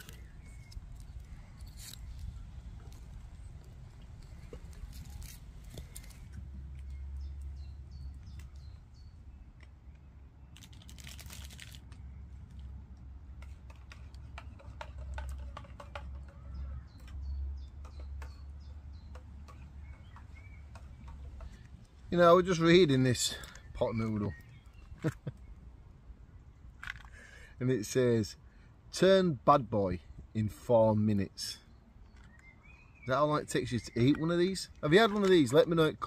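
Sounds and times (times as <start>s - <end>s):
birds chirping: 0.0s - 10.9s, 11.8s - 36.0s.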